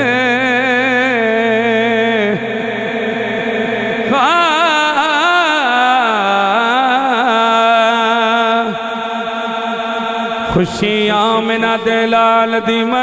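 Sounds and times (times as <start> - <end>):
man singing through a microphone: 0.0 - 13.0.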